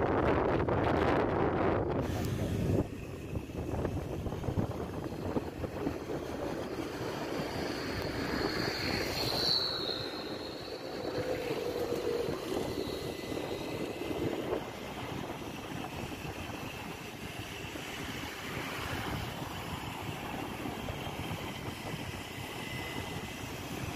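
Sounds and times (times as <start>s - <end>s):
high whine: 0.0s - 23.9s
vehicle road and wind noise: 0.0s - 23.9s.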